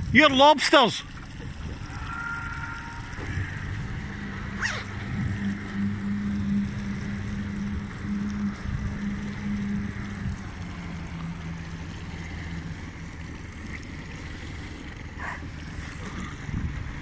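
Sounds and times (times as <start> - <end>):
wind buffeting microphone: 0.0 - 0.4, 1.0 - 14.2, 14.9 - 17.0
motorboat engine humming: 0.0 - 17.0
water lapping: 0.0 - 17.0.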